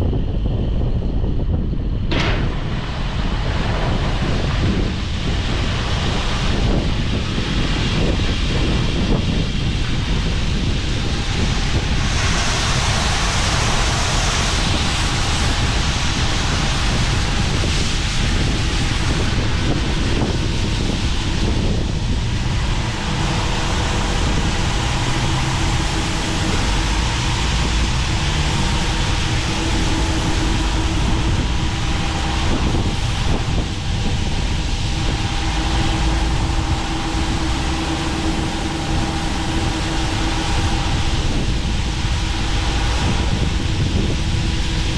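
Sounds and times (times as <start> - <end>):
heavy machinery running: 0.0 - 44.9
wind noise on microphone: 0.0 - 44.9.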